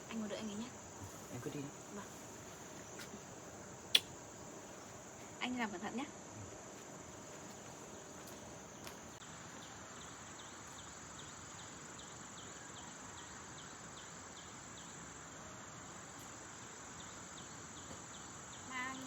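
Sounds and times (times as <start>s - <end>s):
insect chirps: 0.0s - 19.0s
insects droning: 0.0s - 19.0s.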